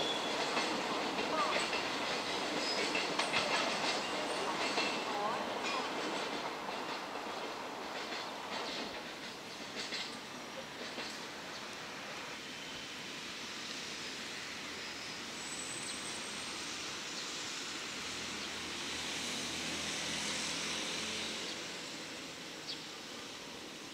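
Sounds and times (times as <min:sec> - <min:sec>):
distant freight train rumble: 0:00.0 - 0:23.9.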